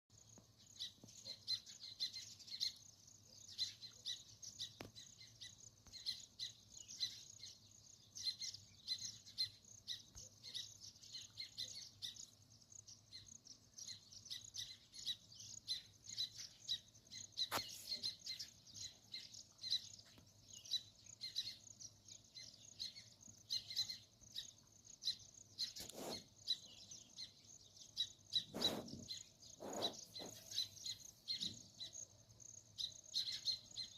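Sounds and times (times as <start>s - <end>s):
sparrows chirping: 0.1s - 33.9s.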